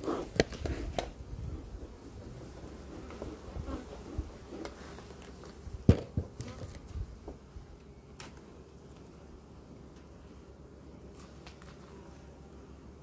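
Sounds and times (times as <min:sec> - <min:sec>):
honeybees buzzing faintly: 0:00.0 - 0:13.0.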